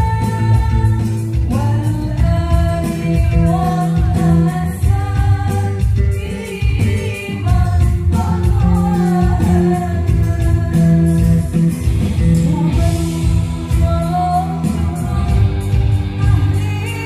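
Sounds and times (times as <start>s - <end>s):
bass guitar: 0.0s - 17.0s
drums: 0.0s - 17.0s
keyboard: 0.0s - 17.0s
woman singing: 0.0s - 17.0s.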